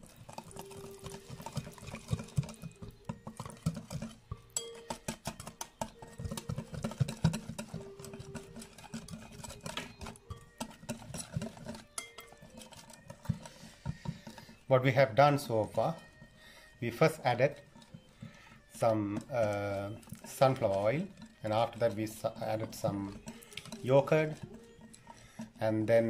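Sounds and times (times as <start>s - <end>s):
wet mixing of paste: 0.0s - 26.0s
fork tines tapping glass bowl: 0.1s - 14.6s, 16.9s - 25.4s.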